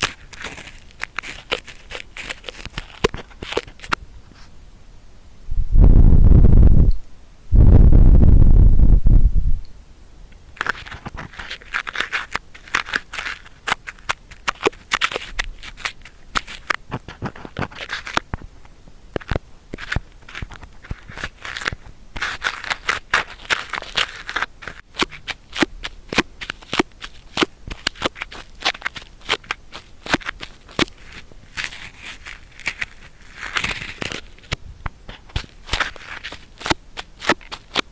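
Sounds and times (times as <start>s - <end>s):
cotton swab scratching microphone: 0.0s - 4.6s, 10.6s - 18.4s, 19.2s - 37.9s.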